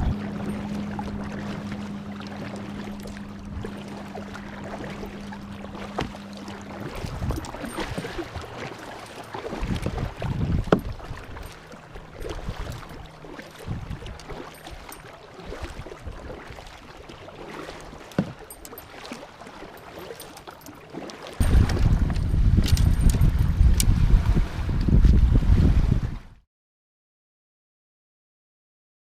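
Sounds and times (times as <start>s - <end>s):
water and wind hiss: 0.0s - 26.3s.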